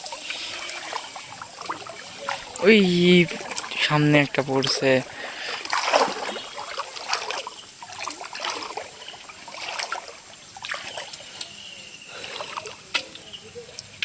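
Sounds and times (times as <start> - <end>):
shallow water splashing: 0.0 - 14.0
water trickling: 0.0 - 14.0.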